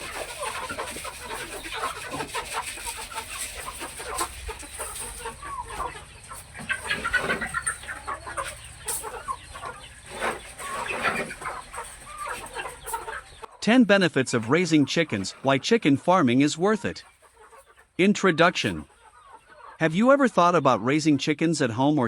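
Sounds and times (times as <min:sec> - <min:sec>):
chickens clucking: 0:00.0 - 0:21.6.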